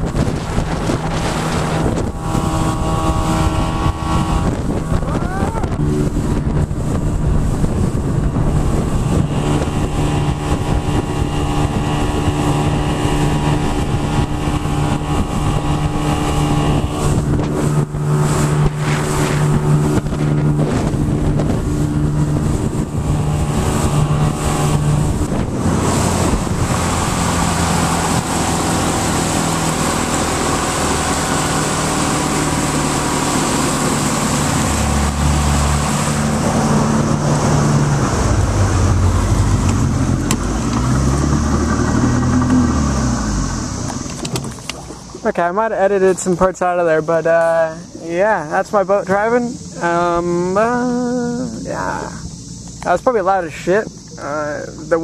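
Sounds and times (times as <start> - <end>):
outboard motor running loudly: 0.0 - 55.0
wind buffeting microphone: 0.0 - 55.0.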